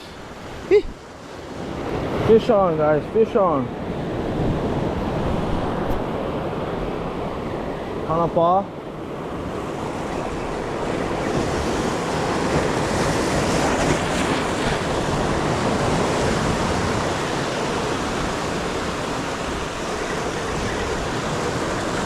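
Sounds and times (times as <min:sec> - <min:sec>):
ocean waves breaking on shore: 0:00.0 - 0:22.0.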